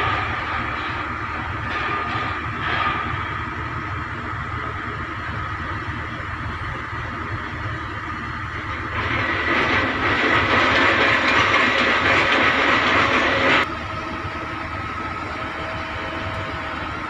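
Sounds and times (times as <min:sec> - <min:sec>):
low engine rumble: 0:00.0 - 0:17.0
machinery hissing and whining: 0:00.0 - 0:17.0.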